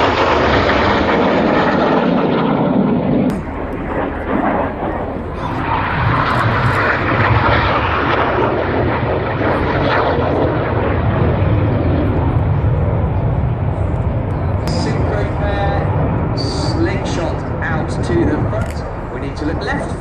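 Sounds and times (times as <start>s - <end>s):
jet aircraft roar: 0.0s - 20.0s.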